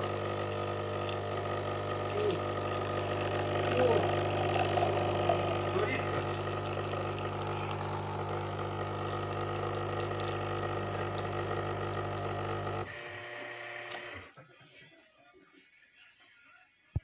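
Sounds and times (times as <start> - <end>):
espresso machine pump humming: 0.0 - 14.3.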